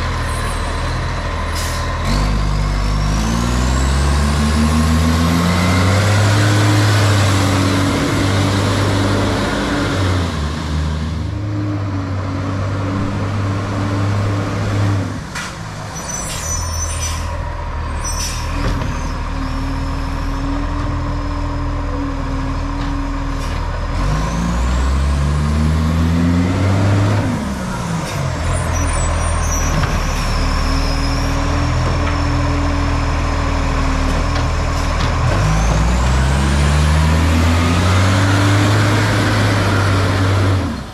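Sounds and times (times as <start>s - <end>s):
diesel truck engine revving: 0.0s - 40.9s.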